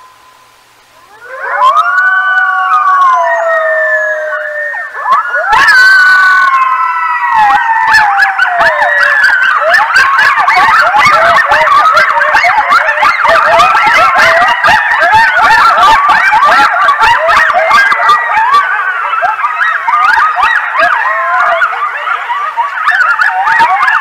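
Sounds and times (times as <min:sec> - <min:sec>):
coyotes howling: 0:00.0 - 0:24.0
coyotes yipping: 0:00.0 - 0:24.0.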